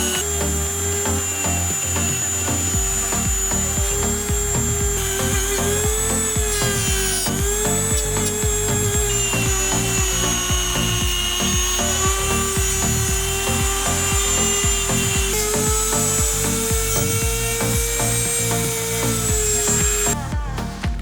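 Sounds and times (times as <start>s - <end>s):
small power tool whining: 0.0s - 21.0s.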